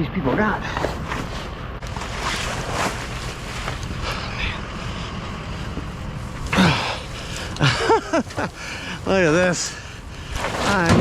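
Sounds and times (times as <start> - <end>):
faint rustling: 0.6 - 11.0.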